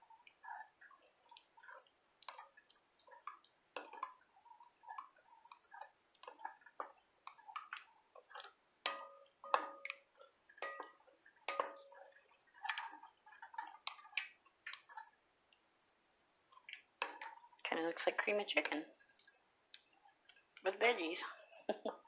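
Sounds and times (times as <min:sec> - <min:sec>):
wooden spoon stirring thick filling: 0:00.0 - 0:22.0.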